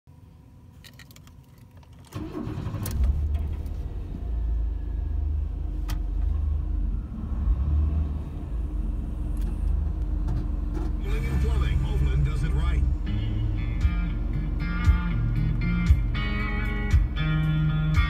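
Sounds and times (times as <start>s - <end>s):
car engine idling: 0.8s - 18.0s.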